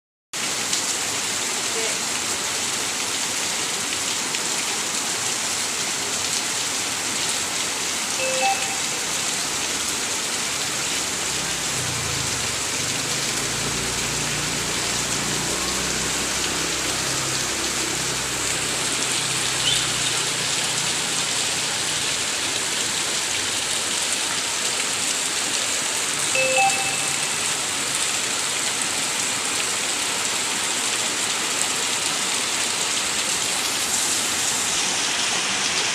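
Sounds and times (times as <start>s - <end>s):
steady rain: 0.4s - 35.9s.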